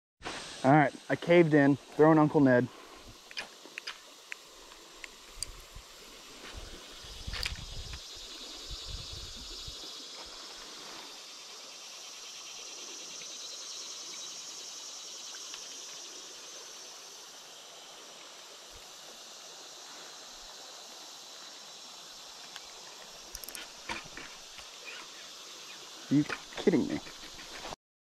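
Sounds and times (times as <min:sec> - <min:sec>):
soft rush of river: 0:00.2 - 0:27.7
insects buzzing high-pitched: 0:00.3 - 0:27.8.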